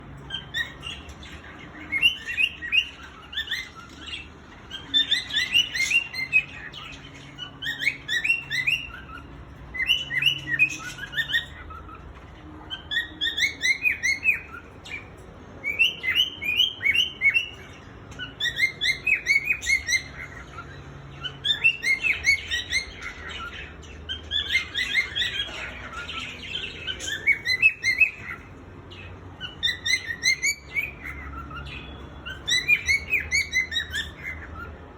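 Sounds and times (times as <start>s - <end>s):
cockatiel chirping: 0.2s - 34.8s.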